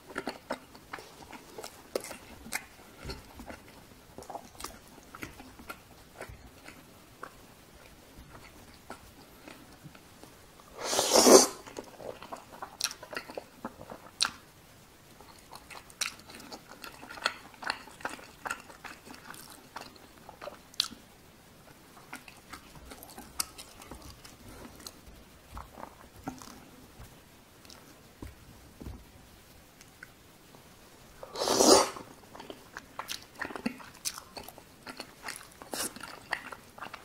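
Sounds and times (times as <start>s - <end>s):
wet chewing mouth sounds: 0.0s - 10.3s, 11.1s - 14.4s, 15.2s - 21.0s, 22.0s - 28.3s, 31.4s - 37.0s.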